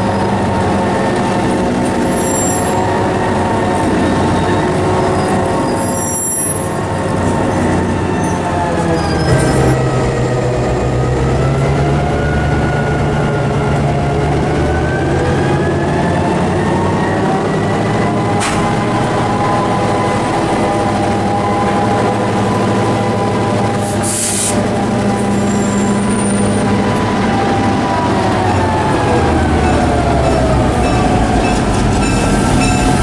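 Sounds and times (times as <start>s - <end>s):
diesel locomotive passing: 0.0s - 33.0s.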